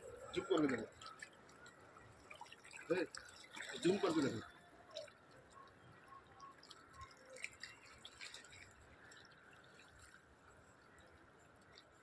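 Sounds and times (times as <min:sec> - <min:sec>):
water drips and splashes: 0:00.0 - 0:12.0.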